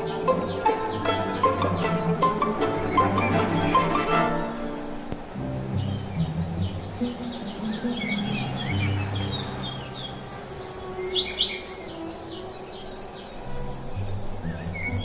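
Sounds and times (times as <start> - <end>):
high insect drone: 0.0 - 15.0
small birds chirping: 0.0 - 15.0.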